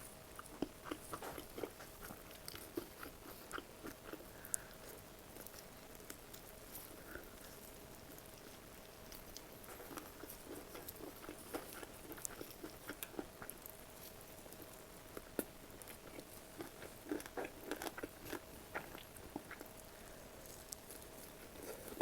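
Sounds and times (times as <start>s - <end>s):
crunchy chewing: 0.0s - 22.0s
faint steady hum: 0.0s - 22.0s.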